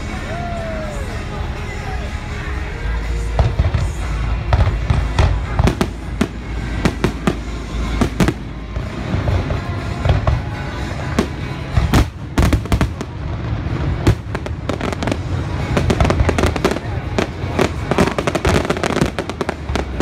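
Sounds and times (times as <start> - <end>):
fireworks bursting with sharp bangs: 3.0 - 20.0.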